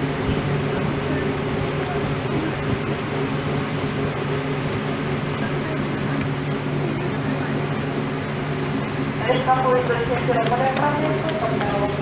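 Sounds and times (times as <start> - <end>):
electric train machinery hum: 0.0 - 12.0.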